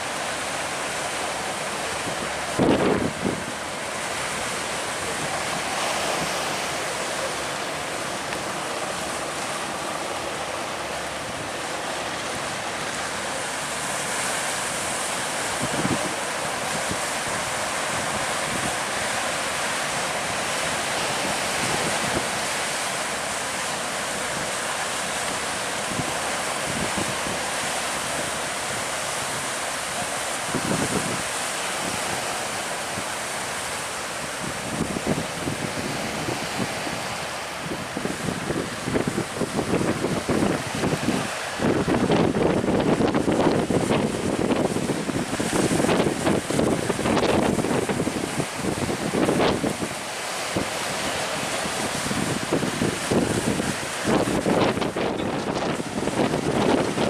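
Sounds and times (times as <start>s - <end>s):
sea surf rushing: 0.0s - 57.0s
wind blowing on microphone: 1.7s - 22.8s, 25.4s - 57.0s.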